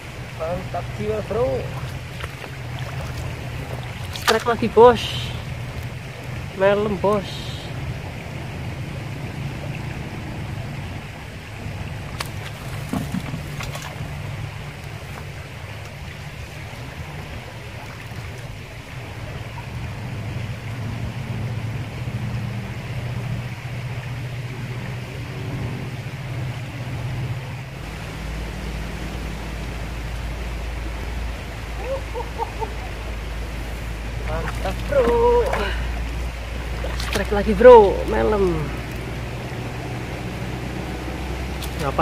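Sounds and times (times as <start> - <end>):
river water running over rocks: 0.0 - 42.0.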